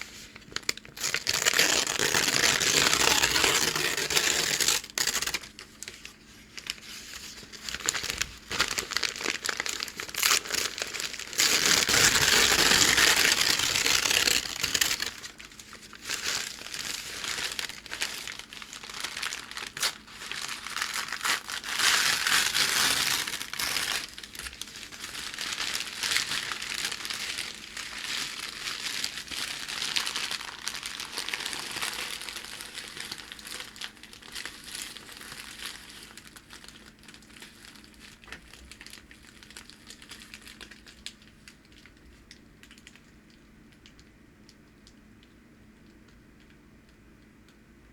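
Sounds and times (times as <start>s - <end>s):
packing paper crinkling: 0.0s - 44.1s.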